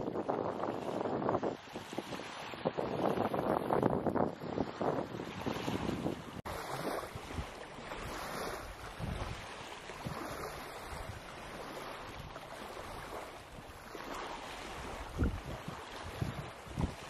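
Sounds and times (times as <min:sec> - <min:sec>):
small waves lapping on sand: 0:00.0 - 0:17.0
wind buffeting microphone: 0:00.0 - 0:17.0.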